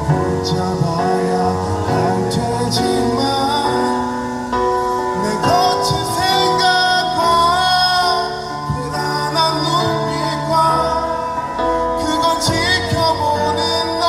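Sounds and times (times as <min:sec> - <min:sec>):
rock ballad through loudspeakers: 0:00.0 - 0:14.0.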